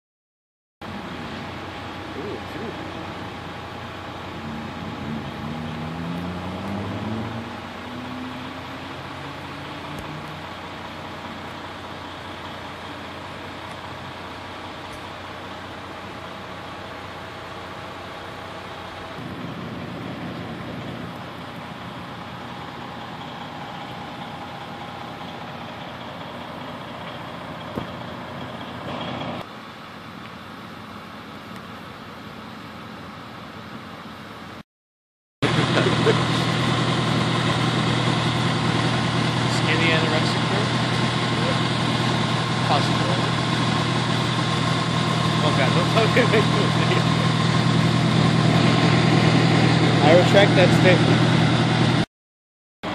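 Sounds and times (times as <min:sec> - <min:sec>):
vehicle engines idling: 0:00.8 - 0:34.6, 0:35.4 - 0:52.0.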